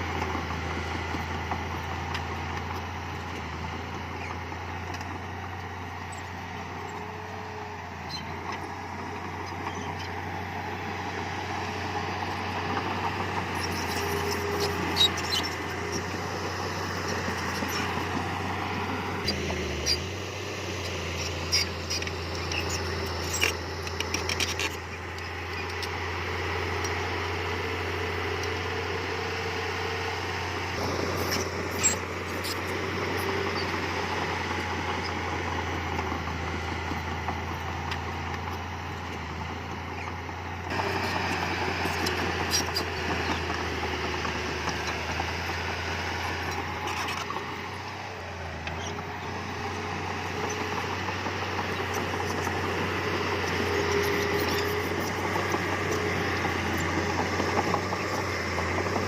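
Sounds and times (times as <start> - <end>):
diesel engine of heavy machinery: 0.0 - 59.0.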